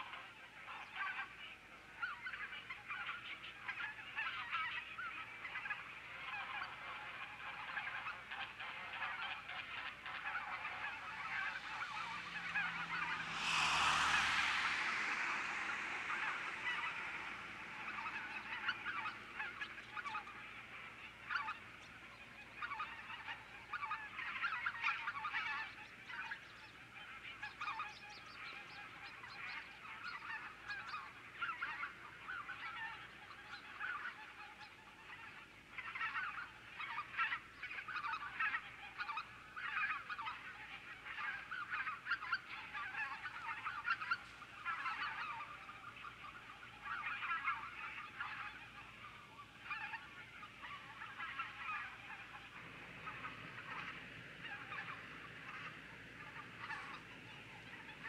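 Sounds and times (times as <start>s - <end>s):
geese honking: 0.0s - 58.0s.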